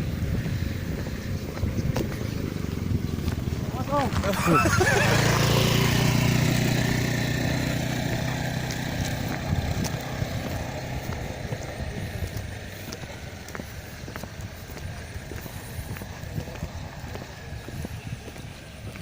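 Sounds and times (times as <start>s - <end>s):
motor engine running: 0.0s - 19.0s.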